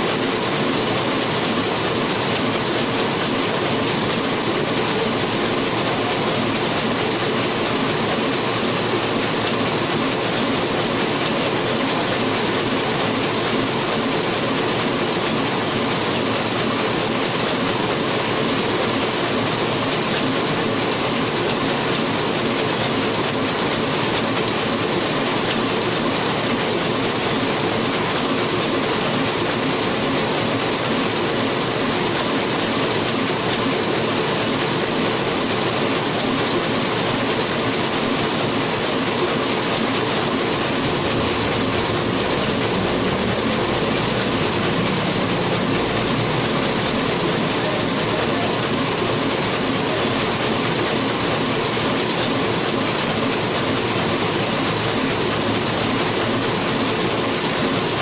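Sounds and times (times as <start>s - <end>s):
printing press running: 0.0s - 58.0s.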